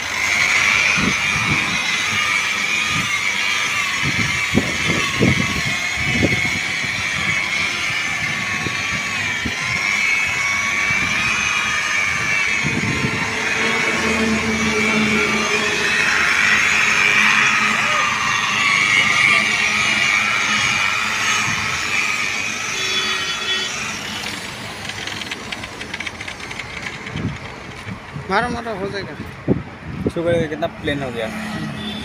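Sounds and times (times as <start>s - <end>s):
electric polisher motor whine: 0.0s - 27.9s
low hum: 0.0s - 28.1s.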